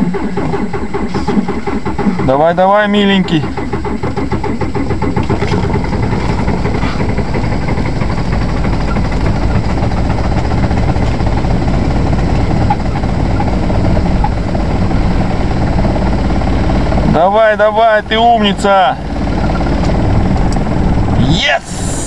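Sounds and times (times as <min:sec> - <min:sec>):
diesel car engine idling: 0:00.0 - 0:22.0.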